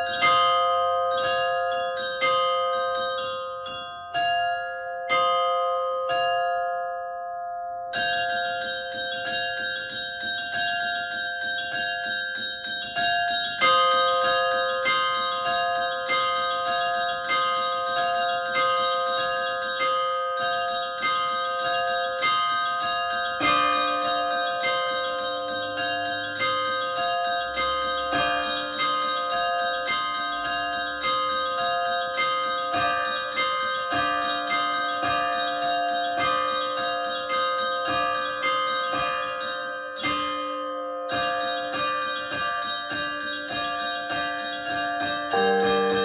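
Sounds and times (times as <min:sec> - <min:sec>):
church bells ringing: 0:00.0 - 0:46.0.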